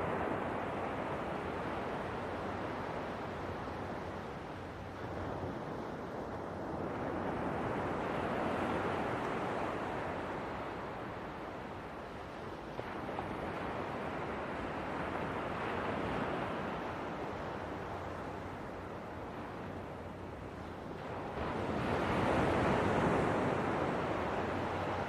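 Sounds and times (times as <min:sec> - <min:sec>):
ocean waves washing ashore: 0:00.0 - 0:25.0.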